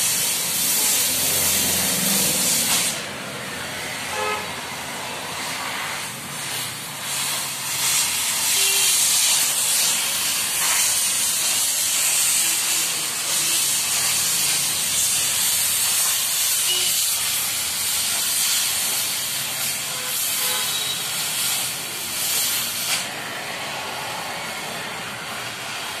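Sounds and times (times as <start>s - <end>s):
gas cutting torch hissing: 0.0s - 26.0s.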